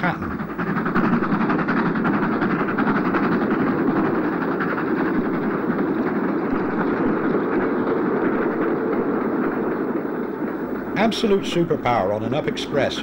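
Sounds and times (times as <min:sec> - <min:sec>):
steam freight train passing: 0:00.0 - 0:13.0.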